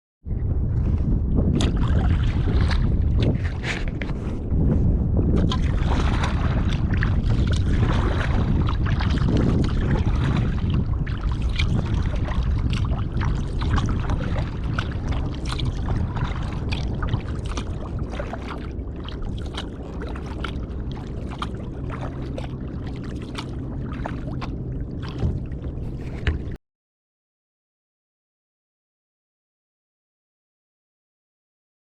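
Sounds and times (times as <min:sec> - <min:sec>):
wind rumble on microphone: 0:00.2 - 0:26.6
paddle splashing water: 0:00.8 - 0:26.6.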